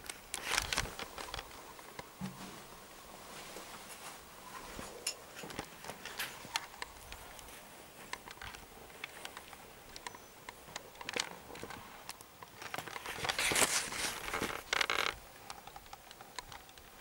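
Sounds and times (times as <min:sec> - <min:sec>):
small clicks and ticks: 0:00.0 - 0:02.1, 0:05.0 - 0:17.0
soft rustling: 0:00.0 - 0:16.1.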